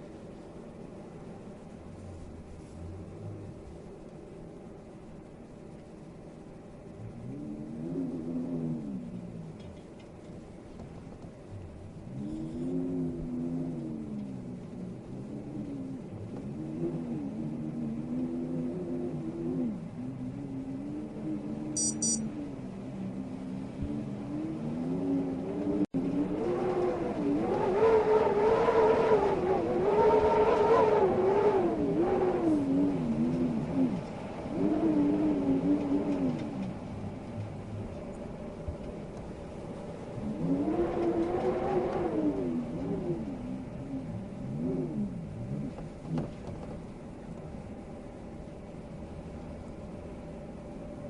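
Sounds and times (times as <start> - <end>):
wind howling in gusts: 0.0 - 51.0.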